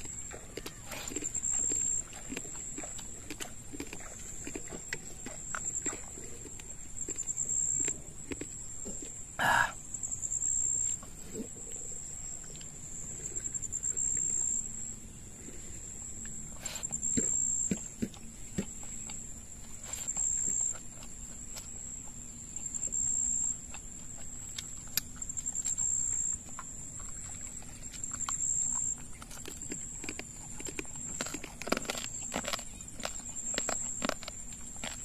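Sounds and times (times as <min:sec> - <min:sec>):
person chewing food: 0:00.0 - 0:09.7, 0:16.2 - 0:35.0.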